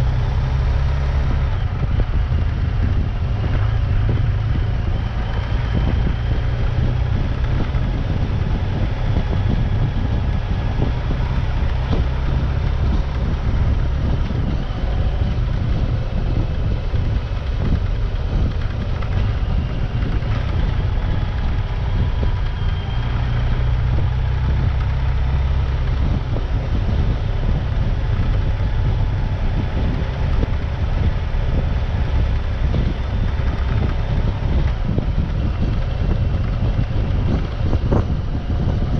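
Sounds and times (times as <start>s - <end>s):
vehicle engine running: 0.0s - 38.9s
wind buffeting microphone: 0.0s - 38.9s.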